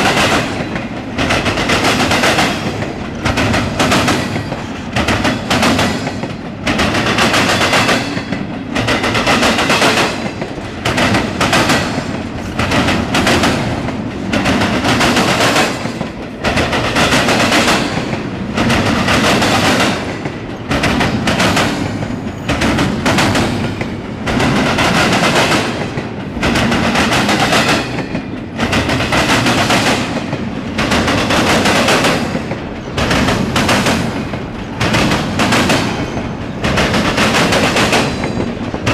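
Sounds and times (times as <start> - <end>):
train wheels clattering on rail joints: 0.0 - 38.9.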